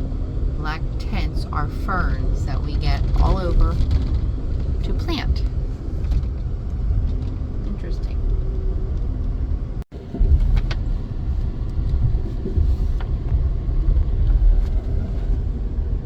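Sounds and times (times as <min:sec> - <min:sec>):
train car interior rumble: 0:00.0 - 0:16.0.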